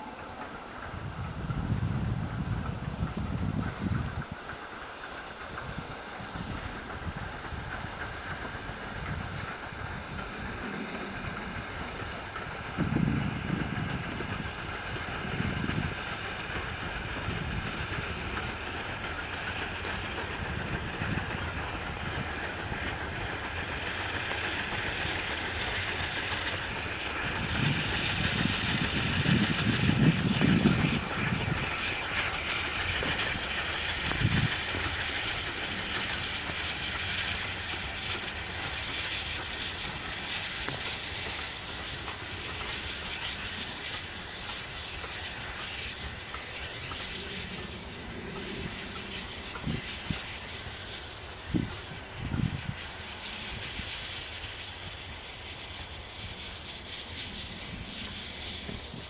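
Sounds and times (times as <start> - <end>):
steam train running past: 0.0 - 59.0
wheels clicking over rail joints: 0.0 - 59.0
wind gusting on microphone: 0.5 - 4.6, 5.2 - 59.0.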